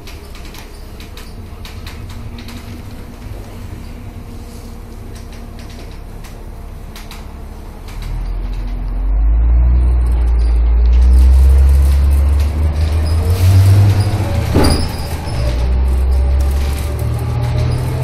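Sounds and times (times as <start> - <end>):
bus diesel engine: 0.0 - 18.0.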